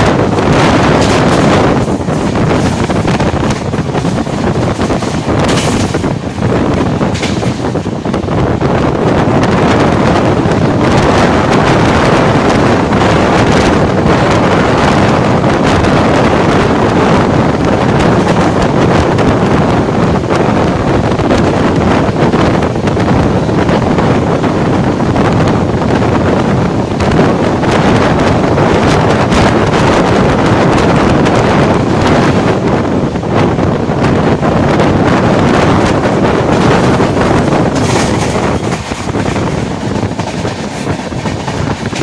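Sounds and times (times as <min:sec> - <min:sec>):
train wheels rumbling and clattering: 0:00.0 - 0:42.0
wind buffeting microphone: 0:00.0 - 0:42.0.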